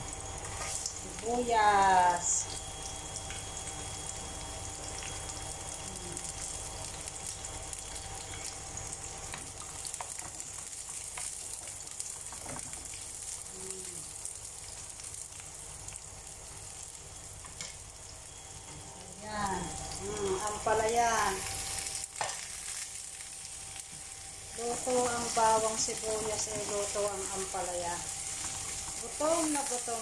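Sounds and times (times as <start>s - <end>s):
onion sizzling in hot oil: 0.0s - 30.0s.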